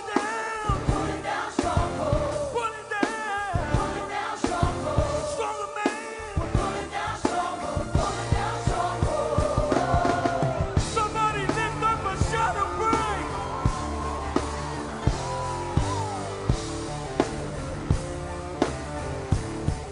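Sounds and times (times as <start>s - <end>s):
drum beat: 0.0s - 19.9s
live rock band playing: 0.0s - 19.9s.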